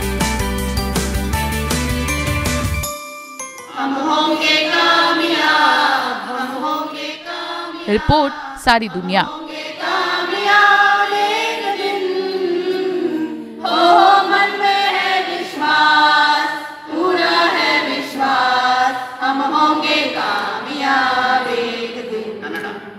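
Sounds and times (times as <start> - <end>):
group of voices singing: 3.7 - 22.9.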